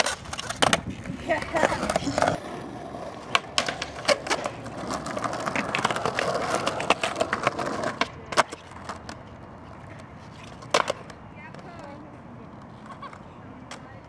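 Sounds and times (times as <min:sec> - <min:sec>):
skateboard clacking on ground: 0:00.0 - 0:14.0
skateboard wheels rolling on concrete: 0:00.0 - 0:14.0.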